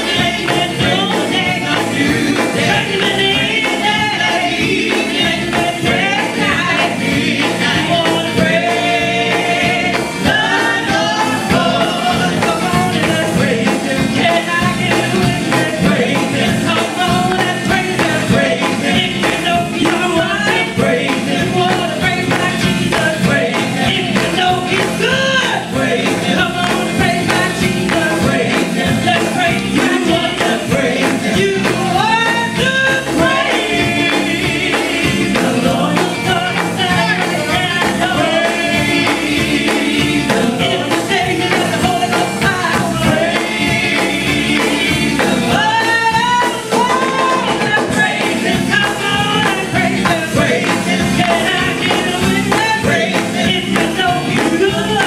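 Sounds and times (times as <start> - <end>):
amplified band with electric guitars: 0.0 - 55.0
woman lead singer: 0.0 - 55.0
women backing singers: 0.0 - 55.0.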